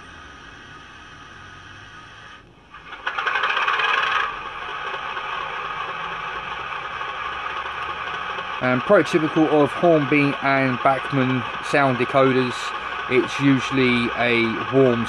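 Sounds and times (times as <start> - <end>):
diesel engine start-up and idle: 0.0 - 15.0.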